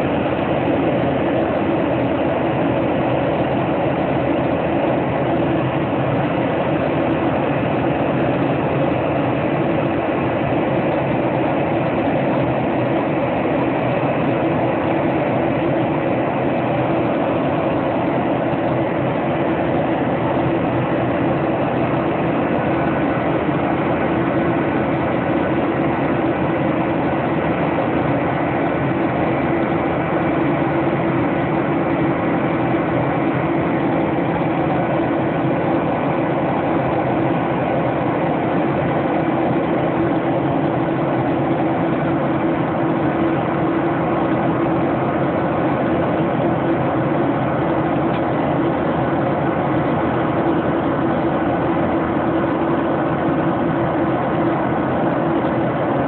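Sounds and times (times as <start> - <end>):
jet airliner cabin drone: 0.0 - 56.0.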